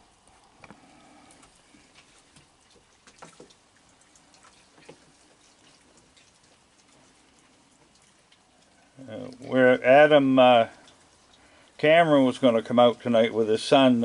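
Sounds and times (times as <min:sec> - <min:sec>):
rain dripping: 0:00.0 - 0:14.0.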